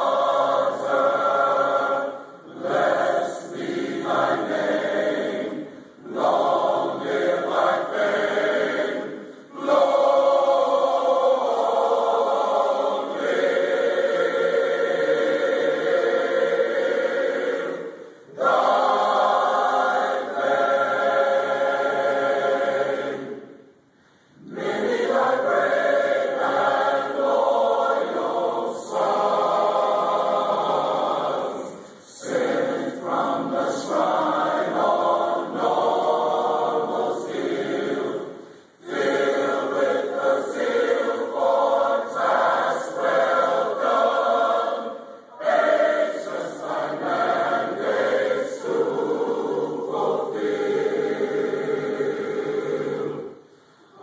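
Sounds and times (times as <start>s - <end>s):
choir singing: 0.0s - 23.7s, 24.4s - 54.0s.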